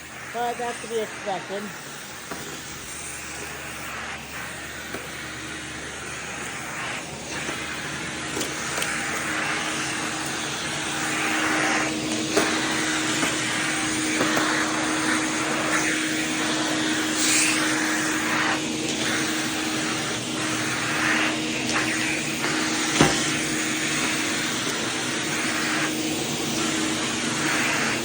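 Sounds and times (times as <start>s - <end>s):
central vacuum humming: 0.0s - 28.0s
suction air rushing: 0.0s - 28.0s.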